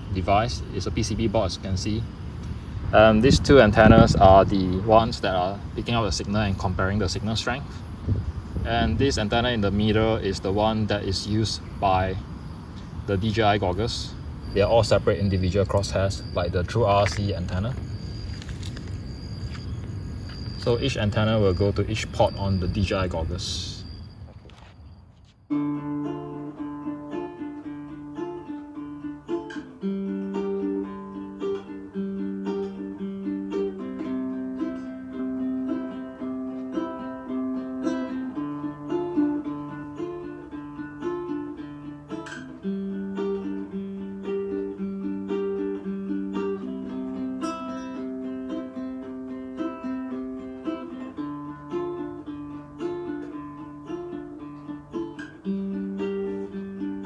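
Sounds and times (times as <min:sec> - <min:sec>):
light tune on plucked strings: 0:00.0 - 0:19.7, 0:25.5 - 0:57.0.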